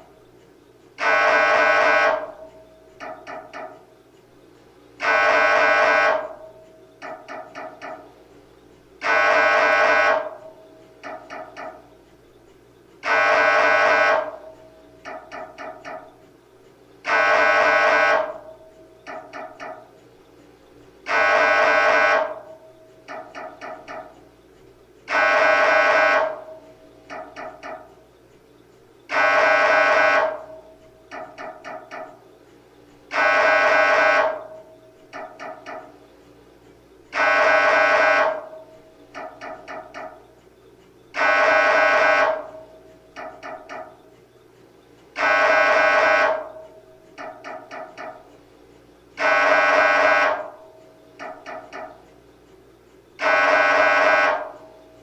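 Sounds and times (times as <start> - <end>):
mri scanner pulsing tones: 0.0 - 55.0.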